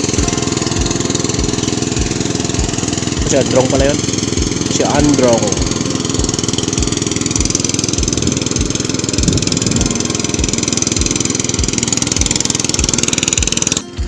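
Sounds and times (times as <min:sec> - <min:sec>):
hand tractor engine running: 0:00.0 - 0:14.0.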